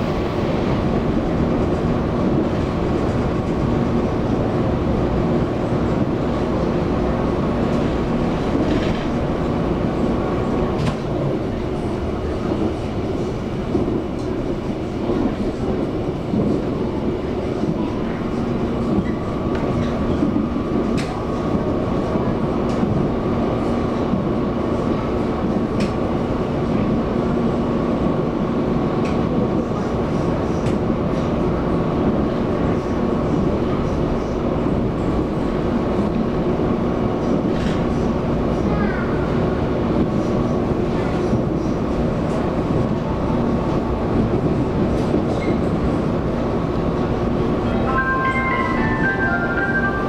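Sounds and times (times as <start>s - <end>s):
train wheels rumbling on rail: 0.0s - 47.9s
train hum: 0.0s - 50.0s.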